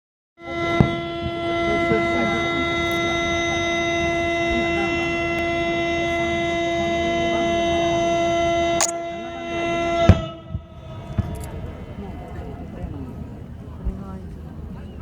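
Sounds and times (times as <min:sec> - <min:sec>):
long steady horn tone: 0:00.4 - 0:12.7
crowd chatter: 0:00.5 - 0:15.0.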